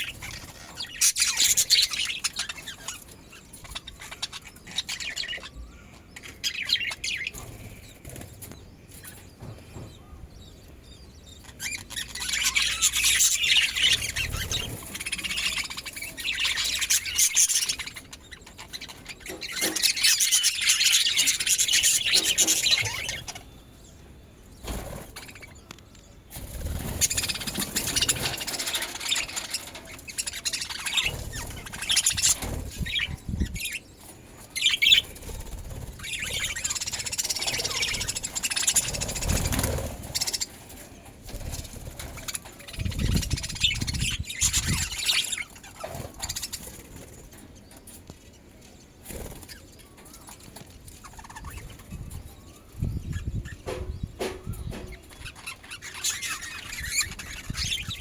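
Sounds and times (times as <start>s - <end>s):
budgerigars chirping: 0.0s - 8.4s, 10.4s - 24.0s, 26.4s - 46.8s, 49.1s - 58.0s
wings fluttering and rustling: 6.2s - 10.0s, 11.5s - 23.5s, 24.6s - 58.0s.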